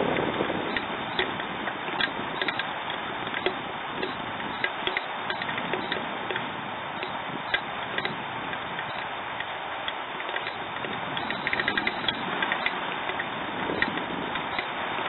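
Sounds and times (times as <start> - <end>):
rain hissing: 0.0 - 15.0
raindrops ticking on hard surface: 0.0 - 15.0.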